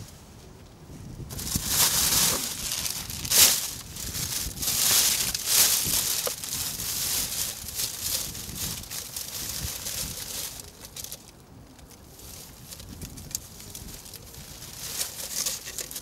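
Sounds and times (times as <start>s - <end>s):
plastic bag crinkling and rustling: 1.3s - 16.0s.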